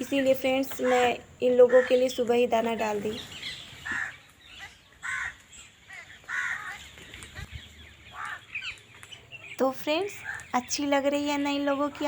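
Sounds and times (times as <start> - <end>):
faint bird chirping: 0.0 - 12.0
harsh bird calls: 0.0 - 12.0.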